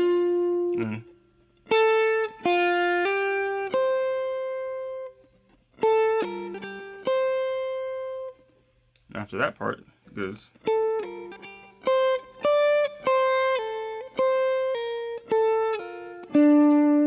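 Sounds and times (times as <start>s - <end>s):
jazz guitar single notes: 0.0s - 8.4s, 9.4s - 17.0s.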